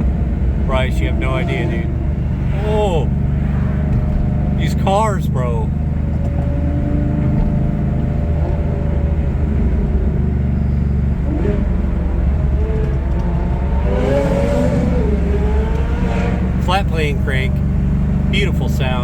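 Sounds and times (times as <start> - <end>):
low drone of car engines: 0.0 - 19.0
sports car engine revving: 0.0 - 19.0.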